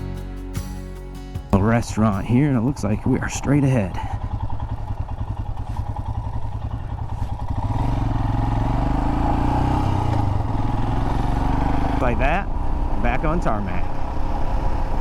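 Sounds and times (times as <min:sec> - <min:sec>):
motorcycle engine running: 0:01.5 - 0:15.0.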